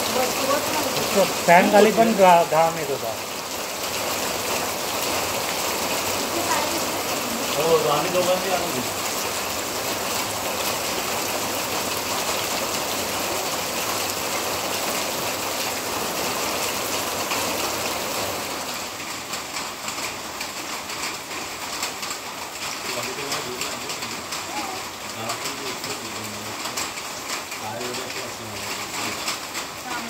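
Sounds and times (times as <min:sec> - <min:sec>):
heavy rain hissing: 0:00.0 - 0:30.0
raindrops hitting a surface: 0:00.0 - 0:30.0.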